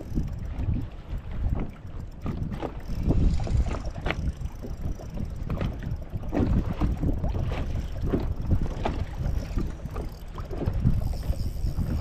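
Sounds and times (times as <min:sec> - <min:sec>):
wind buffeting microphone: 0:00.0 - 0:12.0
water slapping against boat hull: 0:00.5 - 0:12.0.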